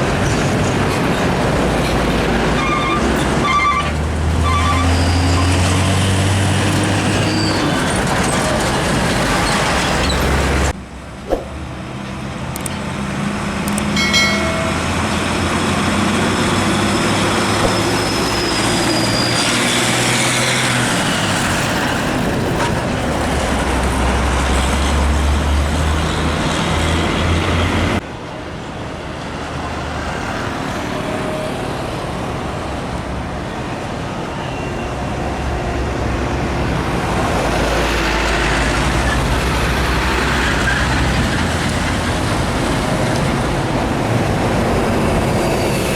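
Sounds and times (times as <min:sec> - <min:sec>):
diesel trucks driving past: 0:00.0 - 0:45.9.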